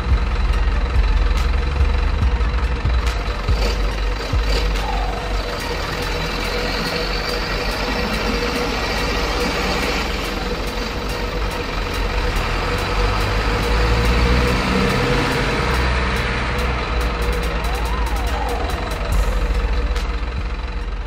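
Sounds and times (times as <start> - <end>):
model truck motor hum and whine: 0.0 - 21.0.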